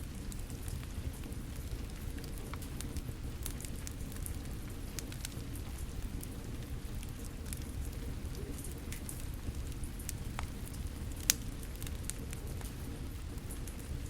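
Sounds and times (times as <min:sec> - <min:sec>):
fire crackling and popping: 0:00.0 - 0:14.0
rain hissing: 0:00.0 - 0:14.0.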